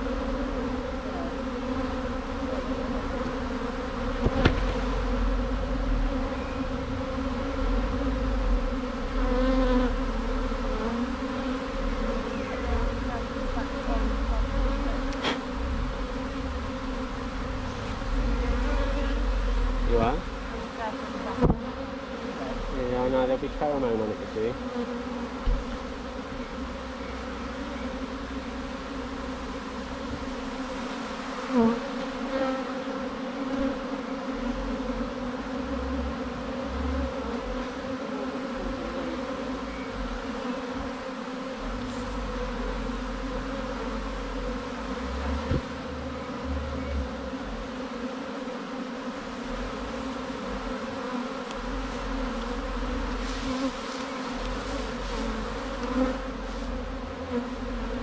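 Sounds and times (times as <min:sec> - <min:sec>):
bee swarm humming: 0:00.0 - 0:58.0.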